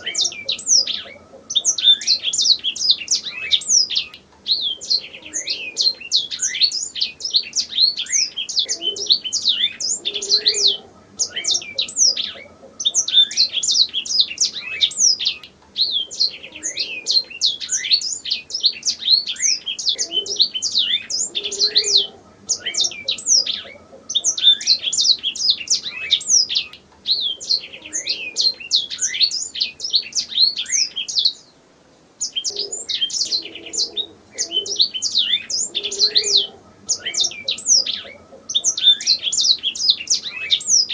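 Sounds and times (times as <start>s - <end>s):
canary singing: 0.0s - 31.5s, 32.2s - 40.9s.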